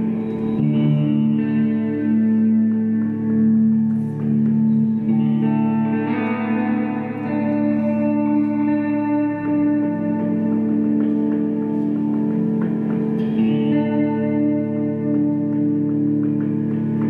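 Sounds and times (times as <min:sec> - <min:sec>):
electric guitar sustained notes: 0:00.0 - 0:17.0.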